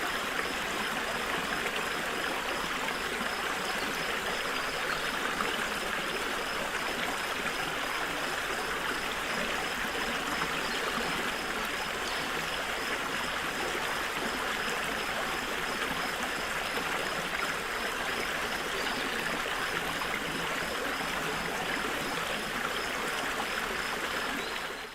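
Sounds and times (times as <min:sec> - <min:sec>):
stream babbling over stones: 0:00.0 - 0:24.9.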